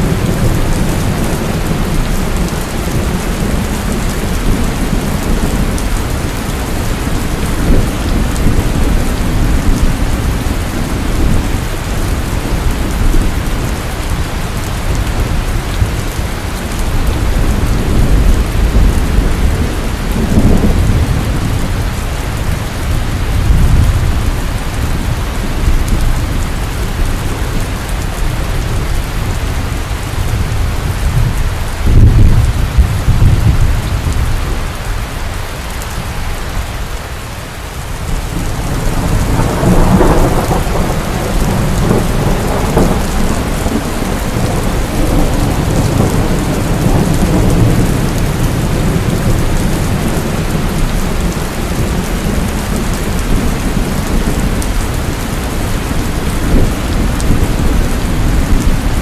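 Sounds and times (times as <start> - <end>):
thunder rumbling: 0.0 - 35.0, 37.7 - 59.0
heavy rain pouring: 0.0 - 59.0.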